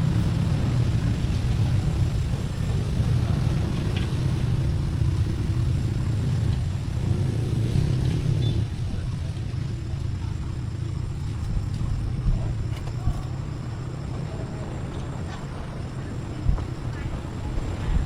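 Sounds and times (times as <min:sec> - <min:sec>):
tractor engine rumbling: 0:00.0 - 0:18.0.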